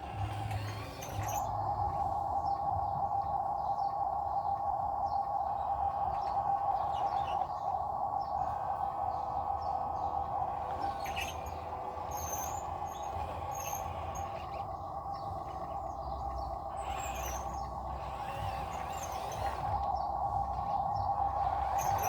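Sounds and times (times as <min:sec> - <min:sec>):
steady droning hum: 0:00.0 - 0:22.0.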